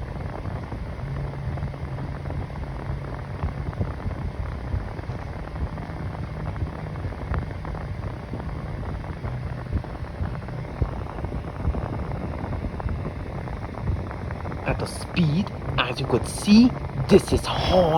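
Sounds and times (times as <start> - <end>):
low motor hum: 0.0 - 17.9.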